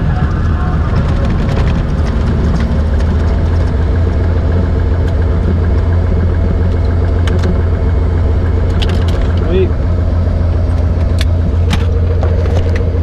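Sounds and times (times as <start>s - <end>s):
plane engine low drone: 0.0s - 13.0s.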